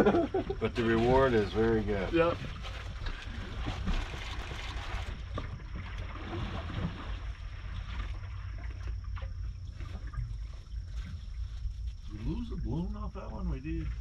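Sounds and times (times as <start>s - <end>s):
boat engine low rumble: 0.0s - 14.0s
faint high whine: 0.0s - 14.0s.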